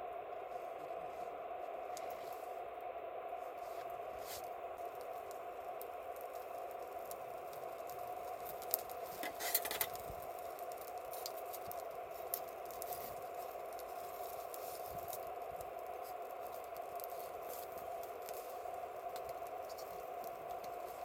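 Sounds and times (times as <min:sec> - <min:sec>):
steady hiss: 0:00.0 - 0:21.0
campfire crackling and popping: 0:00.1 - 0:21.0.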